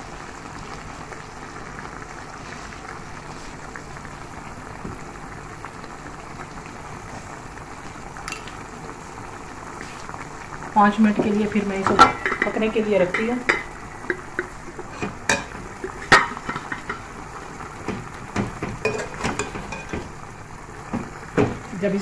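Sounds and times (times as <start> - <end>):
chicken bubbling and sizzling: 0.0 - 22.0.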